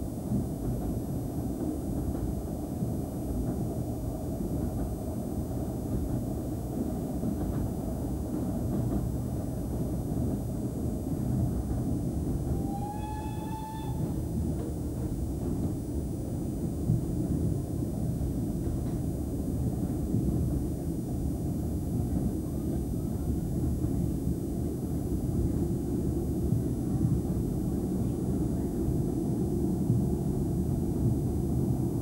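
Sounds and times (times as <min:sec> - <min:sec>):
train carriage rumble on track: 0:00.0 - 0:32.0.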